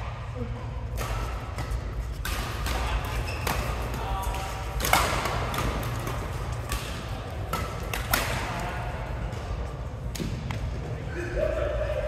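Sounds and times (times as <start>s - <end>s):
rackets hitting shuttlecock: 0.9s - 10.8s.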